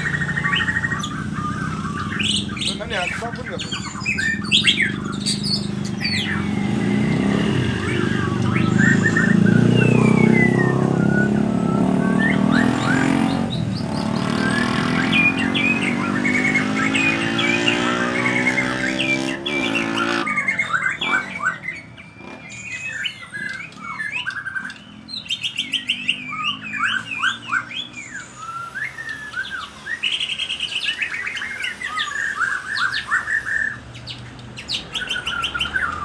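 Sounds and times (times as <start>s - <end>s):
bird singing whistles and trills: 0.0s - 36.0s.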